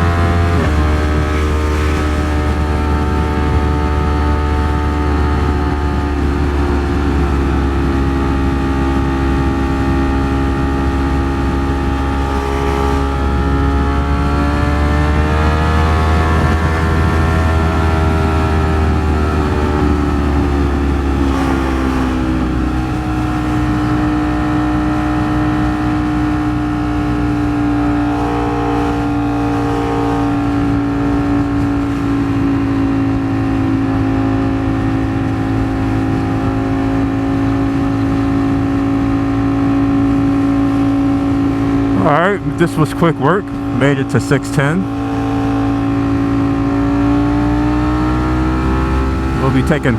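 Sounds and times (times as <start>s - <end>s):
motorcycle engine while riding: 0.0s - 49.9s.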